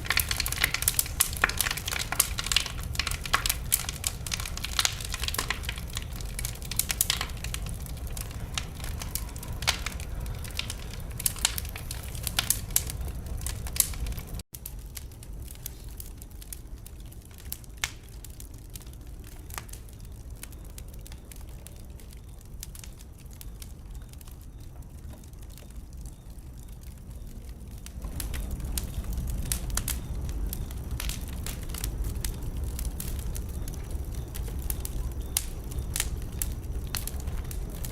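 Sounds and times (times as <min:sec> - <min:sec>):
low rumble of flames: 0:00.0 - 0:37.9
wood fire crackling and popping: 0:00.0 - 0:37.9.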